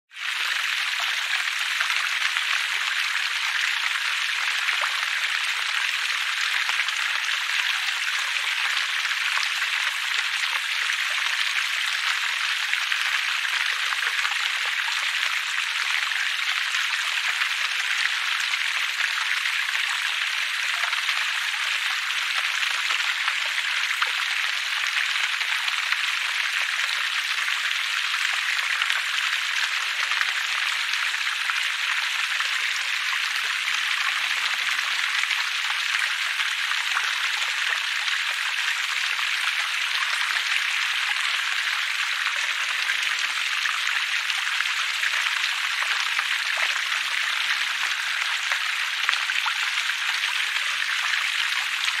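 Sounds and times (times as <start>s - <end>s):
stream splashing over rocks: 0.1s - 52.0s.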